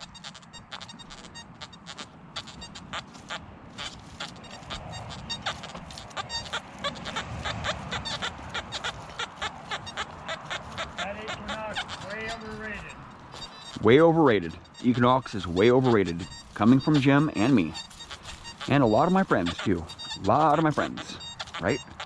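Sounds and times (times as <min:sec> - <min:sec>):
metal detector short beeps: 0:00.0 - 0:22.0.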